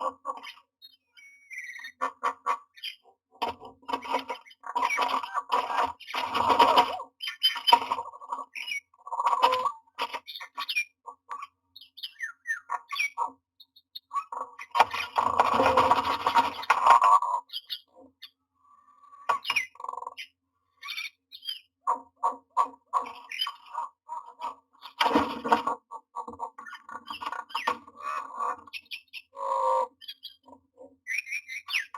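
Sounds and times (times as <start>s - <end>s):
birds squawking and chirping: 0.0s - 31.9s.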